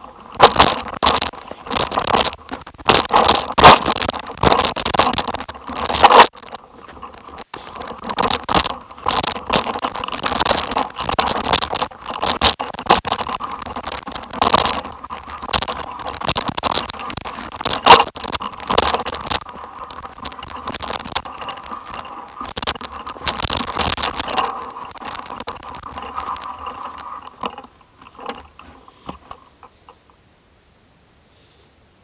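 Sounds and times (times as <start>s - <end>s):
small stone clicks: 0.0s - 29.7s
crunching over loose stones: 0.0s - 30.0s.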